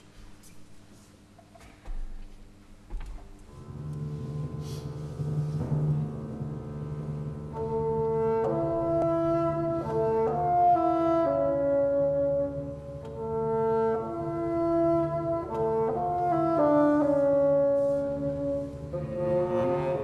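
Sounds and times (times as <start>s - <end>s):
chamber orchestra playing: 3.5s - 20.0s.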